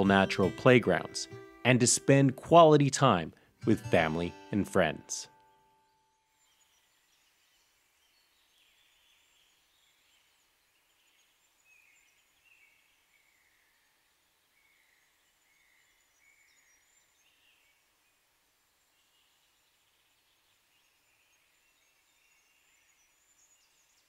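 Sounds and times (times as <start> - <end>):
soft hiss: 0.8 - 24.0.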